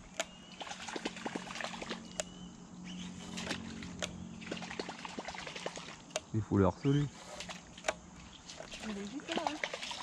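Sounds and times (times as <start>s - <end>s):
lure clicks and splashes: 0.0s - 2.6s, 3.2s - 6.4s, 7.3s - 10.0s
trolling motor hum: 0.0s - 10.0s.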